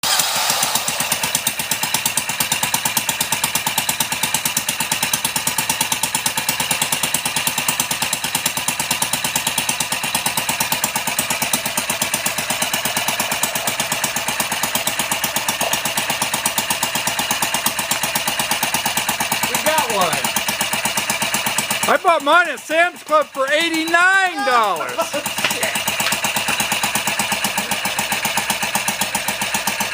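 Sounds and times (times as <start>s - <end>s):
small can engine running: 0.0s - 29.9s.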